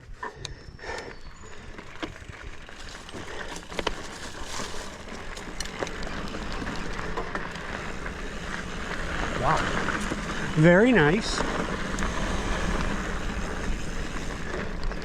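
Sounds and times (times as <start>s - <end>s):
bike rattling over bumps: 0.0s - 15.0s
bike tyres hissing on dirt trail: 0.8s - 15.0s.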